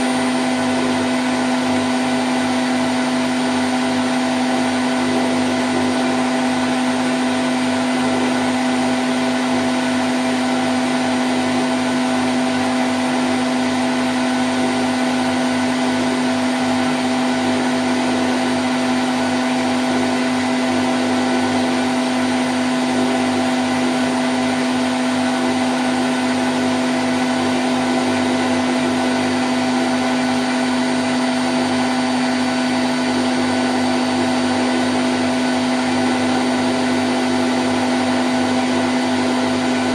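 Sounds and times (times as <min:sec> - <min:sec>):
washing machine spin cycle: 0:00.0 - 0:39.9.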